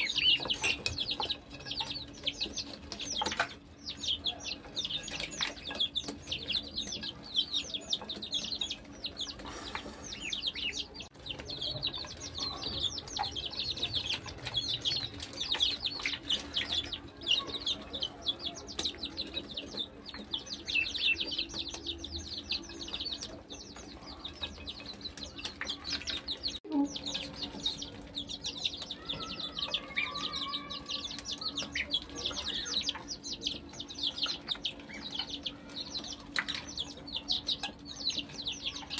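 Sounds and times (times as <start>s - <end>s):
ducklings and chicks peeping: 0.0s - 38.9s.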